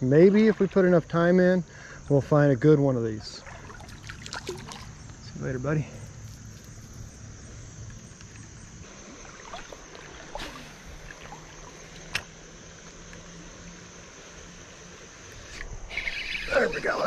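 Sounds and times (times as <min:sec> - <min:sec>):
creek water sloshing: 0:00.0 - 0:01.4, 0:03.0 - 0:16.9
high insect drone: 0:00.0 - 0:17.0.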